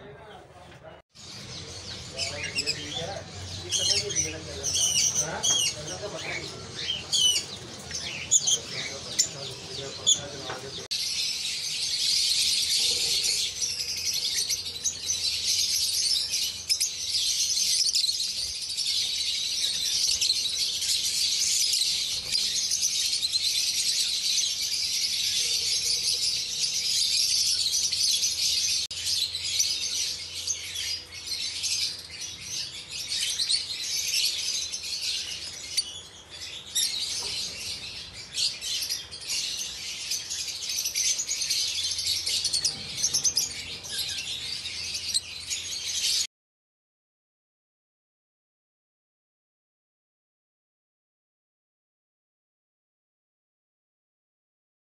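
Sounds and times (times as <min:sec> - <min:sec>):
lovebirds chirping: 0:00.1 - 0:46.3.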